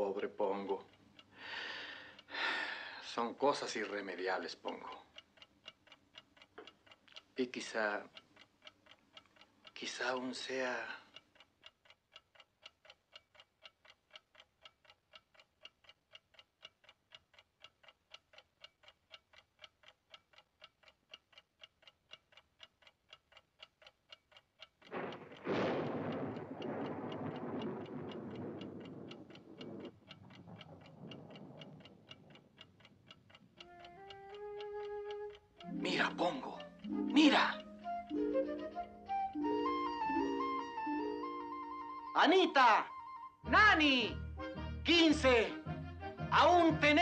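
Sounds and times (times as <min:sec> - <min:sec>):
clock ticking: 0:00.0 - 0:47.0.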